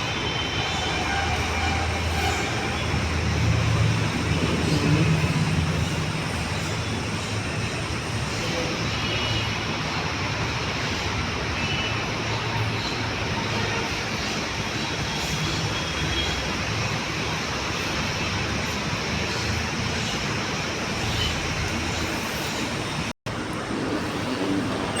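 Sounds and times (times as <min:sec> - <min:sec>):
moving vehicle rumbling: 0:00.0 - 0:11.5, 0:16.4 - 0:25.0.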